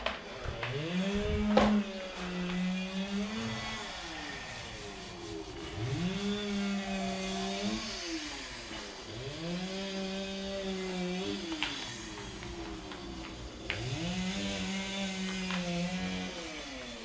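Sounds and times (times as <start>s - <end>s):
paint roller squealing on concrete: 0.4s - 16.8s.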